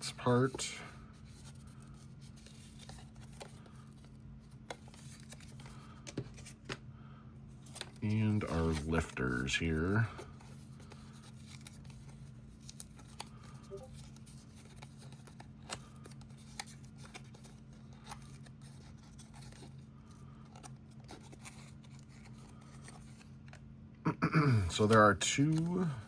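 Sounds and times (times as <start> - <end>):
paper clicks and crinkles: 0.1 - 6.8, 7.5 - 23.7, 24.7 - 26.0.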